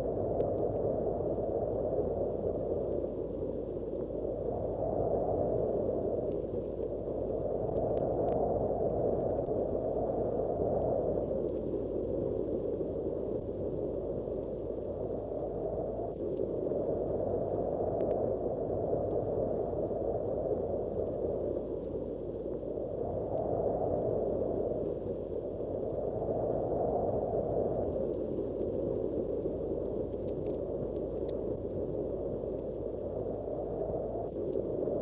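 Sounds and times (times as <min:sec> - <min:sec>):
low rush of wind: 0:00.0 - 0:35.0.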